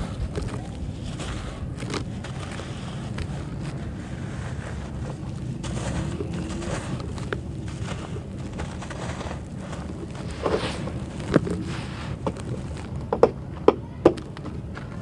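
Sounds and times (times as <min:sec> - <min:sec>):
dry soil crumbling by hand: 0:00.0 - 0:15.0
low wind rumble on microphone: 0:00.0 - 0:15.0.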